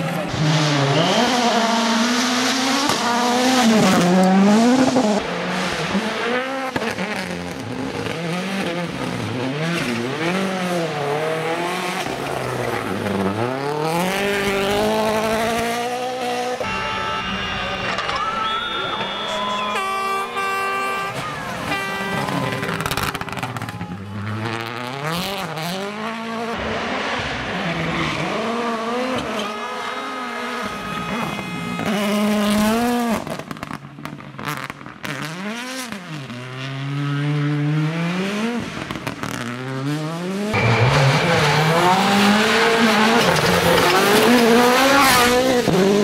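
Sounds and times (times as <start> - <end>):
rally car engines revving past: 0.0 - 16.7, 21.1 - 46.0.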